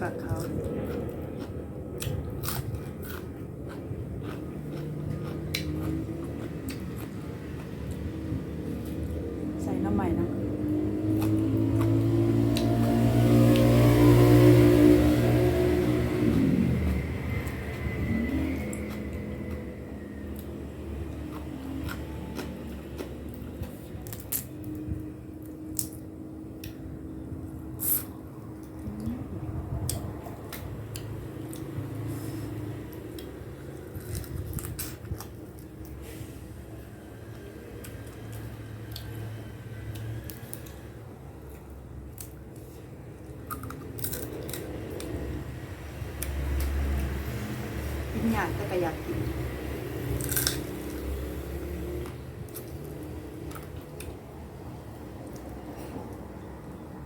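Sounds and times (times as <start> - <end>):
chewing with crunches: 0.0 - 9.4, 10.5 - 48.1, 49.2 - 56.8
low hum: 0.0 - 57.0.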